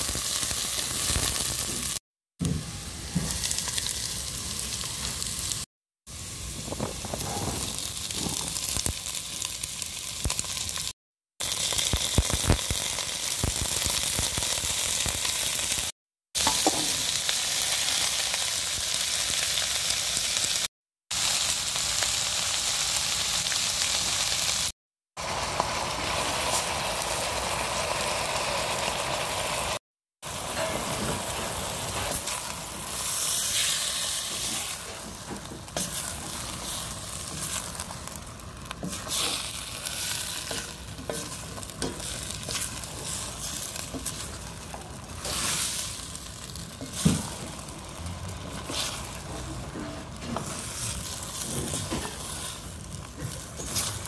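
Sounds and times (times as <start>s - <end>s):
vegetables sizzling in a pot: 0.0s - 54.0s.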